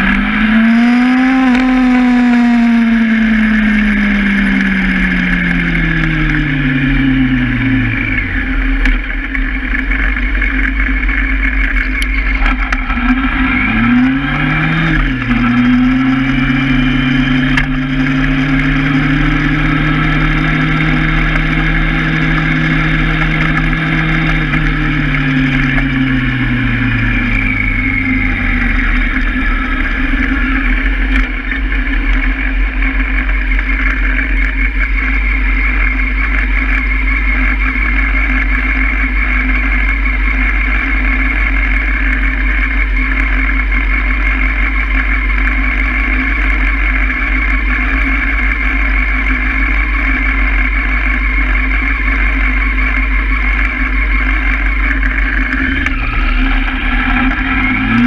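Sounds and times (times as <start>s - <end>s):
motorcycle engine decelerating: 0.0s - 58.0s
motorcycle engine idling: 0.0s - 58.0s.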